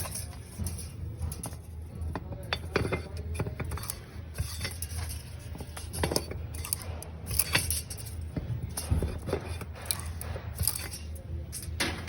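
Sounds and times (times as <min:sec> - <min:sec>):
metal tools clinking: 0:00.0 - 0:12.0
steady low hum: 0:00.0 - 0:12.0.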